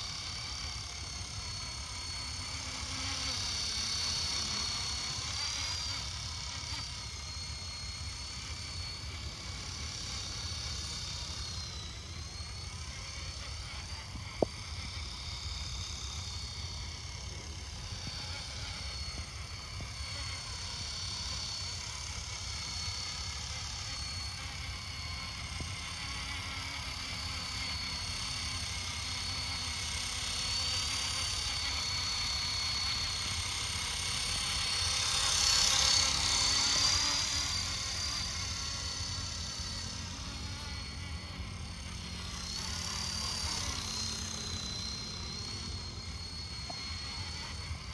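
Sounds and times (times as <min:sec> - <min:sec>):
rc helicopter whine: 0:00.0 - 0:47.9.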